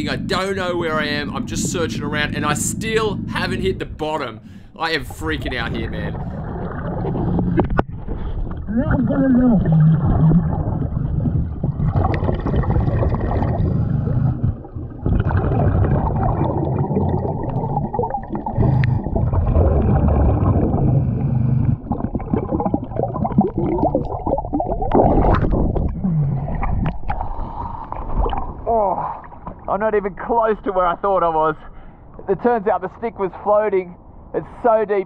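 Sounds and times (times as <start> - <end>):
underwater bubbles gurgling: 0.0 - 3.8, 5.1 - 29.7.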